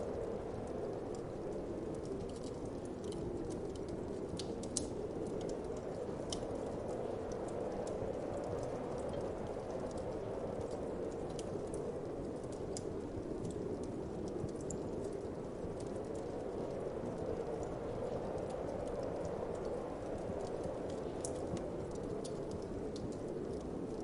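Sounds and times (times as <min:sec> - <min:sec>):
wood fire crackling: 0:00.0 - 0:24.0
fire popping: 0:01.5 - 0:24.0.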